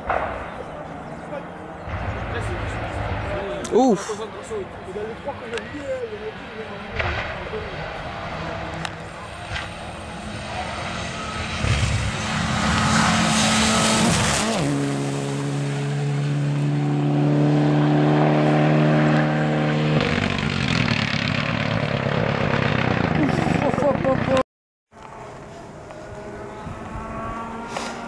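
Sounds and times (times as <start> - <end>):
rally car engine at full throttle: 0.0 - 24.4, 25.0 - 28.0.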